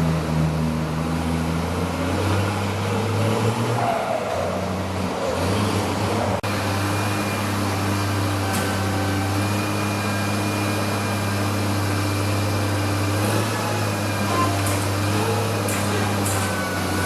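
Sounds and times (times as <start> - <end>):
garbage truck engine droning: 0.0 - 17.0.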